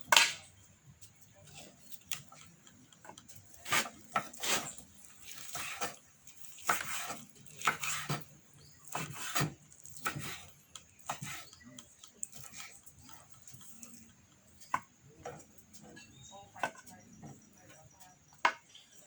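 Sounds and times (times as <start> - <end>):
cooking pots and utensils clinking: 1.4 - 19.0.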